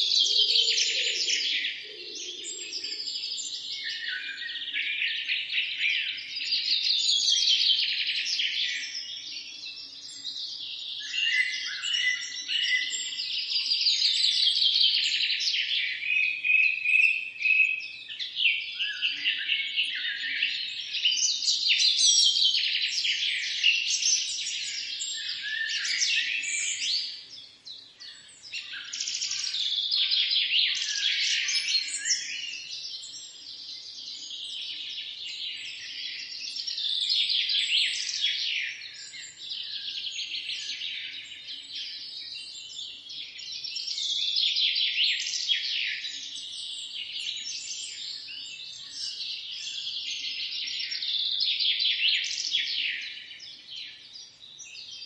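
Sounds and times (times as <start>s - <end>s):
chorus of birds chirping: 0.0s - 55.0s.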